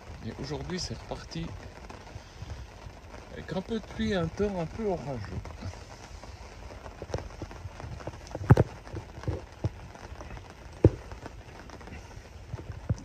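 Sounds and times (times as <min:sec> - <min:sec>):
scattered raindrops landing: 0:00.0 - 0:13.0.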